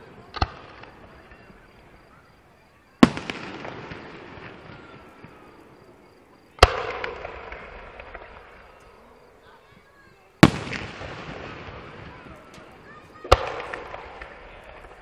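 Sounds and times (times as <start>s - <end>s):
fireworks bangs with echoing rumble: 0.0s - 15.0s.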